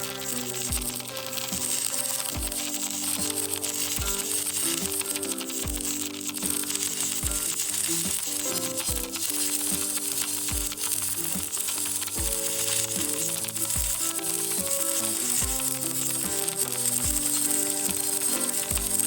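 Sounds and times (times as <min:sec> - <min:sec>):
background music with drum beats: 0:00.0 - 0:19.0
welding arc crackling: 0:00.0 - 0:19.0.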